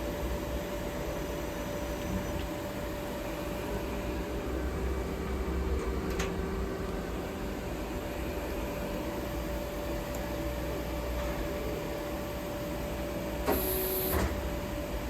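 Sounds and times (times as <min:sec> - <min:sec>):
machinery hum with fan noise: 0:00.0 - 0:15.0.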